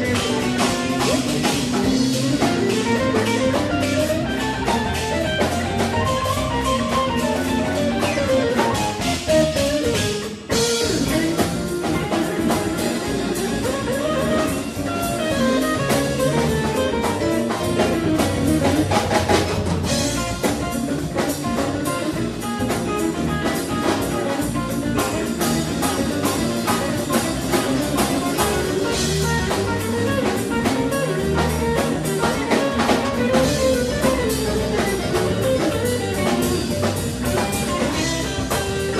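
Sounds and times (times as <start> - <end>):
live funk jazz band playing: 0.0 - 38.9.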